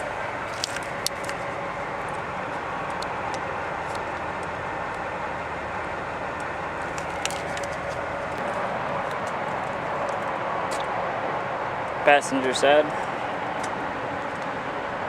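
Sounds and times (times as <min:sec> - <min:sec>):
vehicle noise with faint hum: 0:00.0 - 0:15.0.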